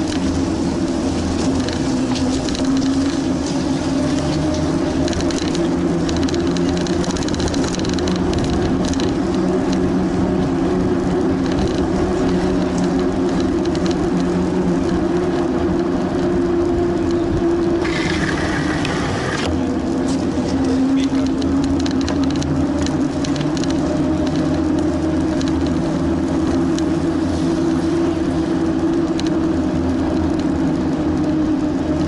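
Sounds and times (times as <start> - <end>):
bicycle tyres rumbling on pavement: 0.0 - 32.0.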